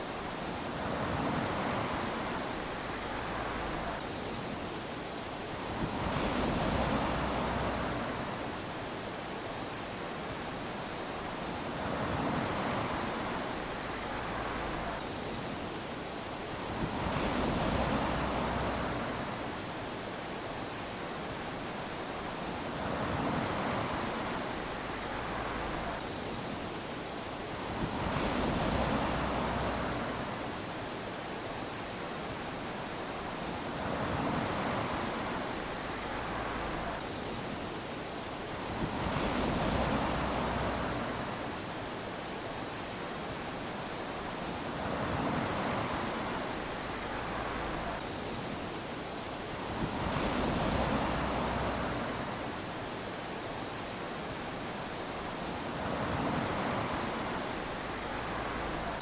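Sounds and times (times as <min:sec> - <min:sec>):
waves lapping on a beach: 0:00.0 - 0:59.0.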